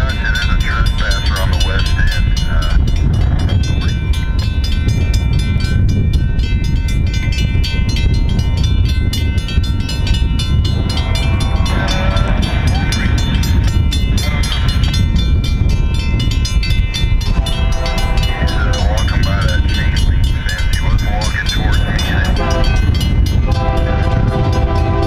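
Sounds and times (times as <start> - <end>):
crossing bell ringing: 0.0 - 25.0
train rumbling: 0.0 - 25.0.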